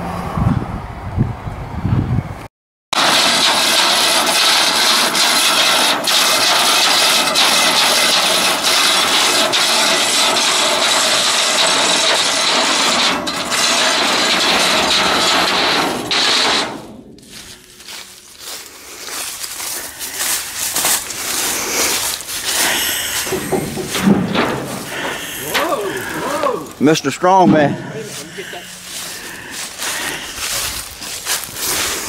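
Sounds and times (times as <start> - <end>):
winch grinding: 3.0 - 32.0.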